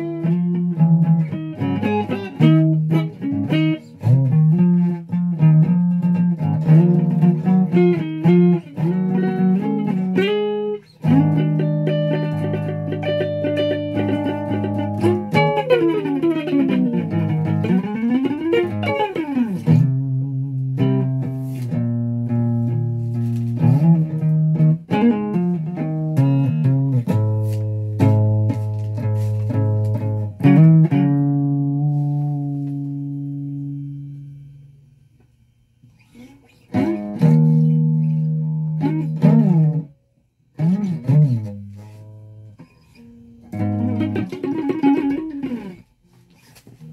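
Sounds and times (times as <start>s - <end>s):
electric guitar playing: 0.0s - 46.9s.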